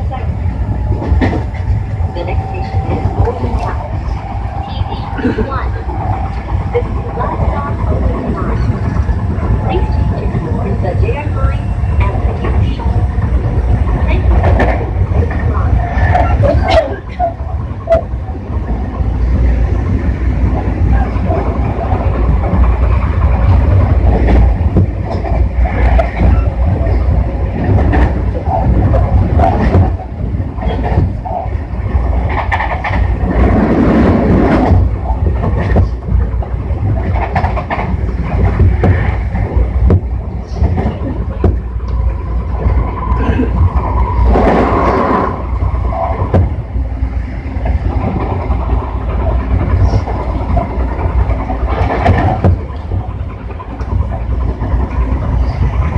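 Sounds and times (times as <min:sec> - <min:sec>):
train rumble: 0:00.0 - 0:55.9.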